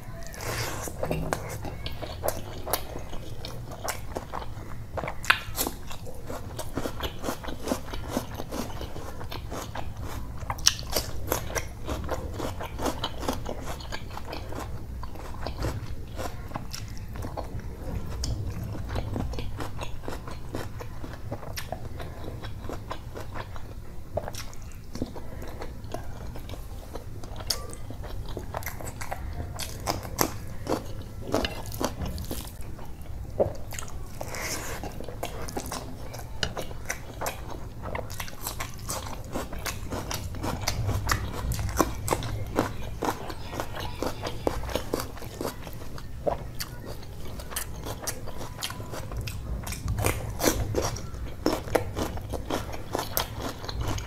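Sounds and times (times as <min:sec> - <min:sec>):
crunching raw vegetables: 0:00.0 - 0:54.0
person chewing food: 0:00.0 - 0:54.0.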